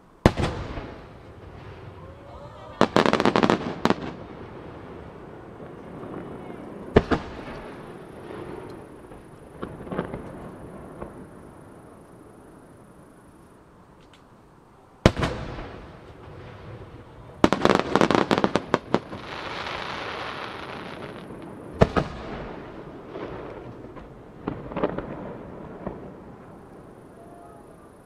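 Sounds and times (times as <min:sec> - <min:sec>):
rapid firework cracks: 0:00.2 - 0:11.7, 0:15.1 - 0:26.7
firework hissing: 0:00.4 - 0:13.2, 0:15.1 - 0:28.0.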